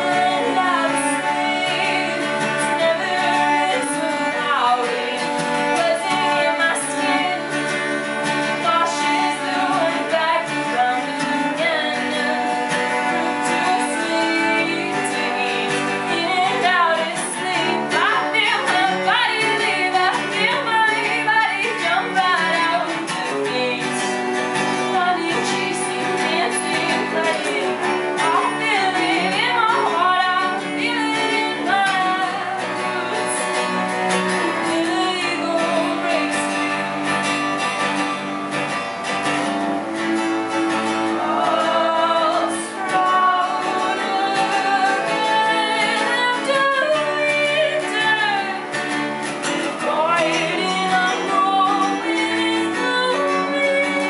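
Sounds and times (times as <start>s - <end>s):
person singing: 0.0s - 38.2s, 39.8s - 54.0s
acoustic guitar: 0.0s - 54.0s
bowed viola da gamba: 0.0s - 54.0s.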